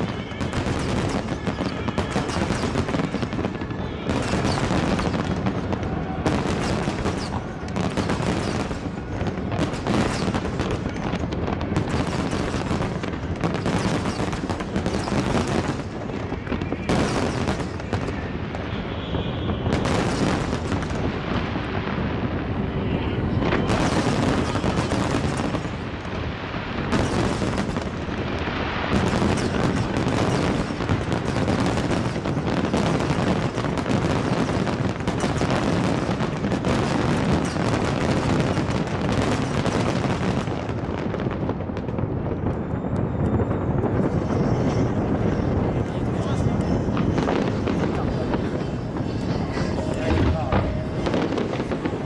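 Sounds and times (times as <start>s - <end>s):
fireworks bursting: 0.0s - 52.0s.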